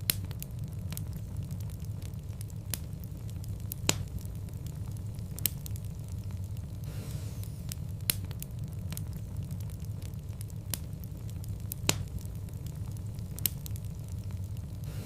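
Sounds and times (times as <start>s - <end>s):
fire crackling in a fireplace: 0.0s - 15.0s
low rumble of fire: 0.0s - 15.0s.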